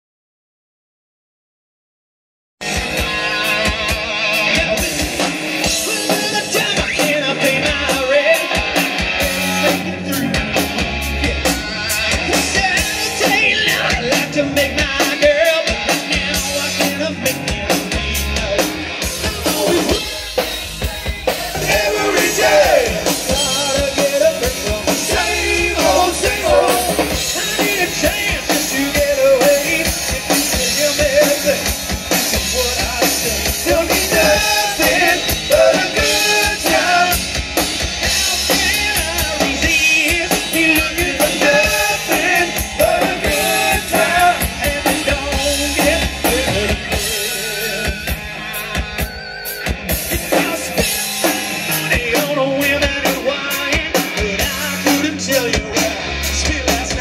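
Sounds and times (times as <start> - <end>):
singer singing: 2.6 - 37.4, 38.0 - 57.0
rock band playing: 2.6 - 57.0.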